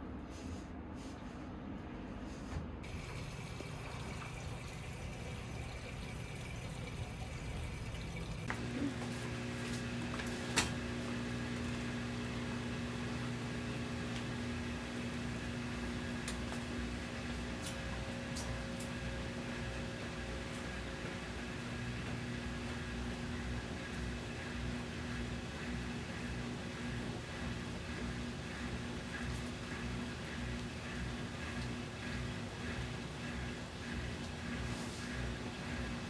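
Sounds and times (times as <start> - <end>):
appliance electric hum: 0.0 - 36.0
low background hum: 0.0 - 36.0.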